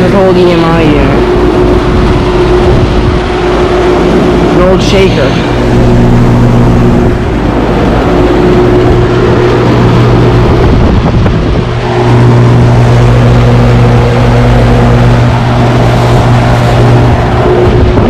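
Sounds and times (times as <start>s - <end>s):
compressor hum: 0.0s - 18.0s
condenser fan rushing: 0.0s - 18.0s.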